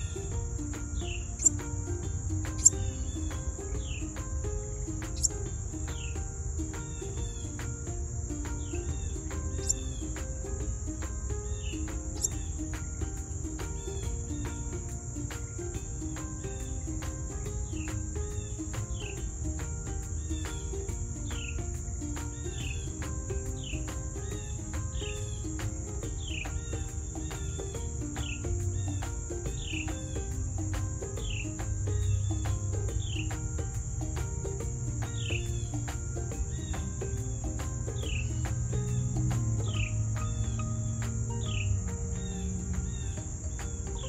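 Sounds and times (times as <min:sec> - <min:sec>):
crickets chirping: 0:00.0 - 0:44.0
soft background music: 0:00.0 - 0:44.0.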